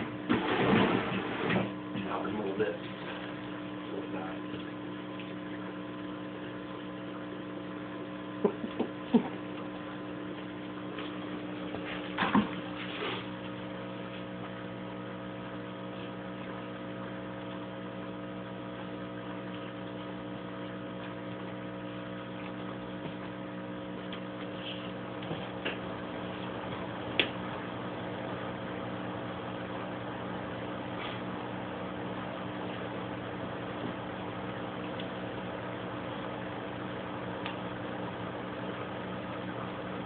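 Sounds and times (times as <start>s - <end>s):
steady electrical hum: 0.0s - 40.0s.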